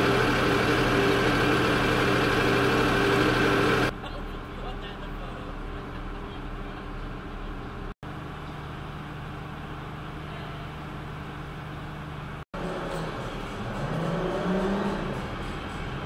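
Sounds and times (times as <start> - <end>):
heavy engine idling: 0.0 - 16.0.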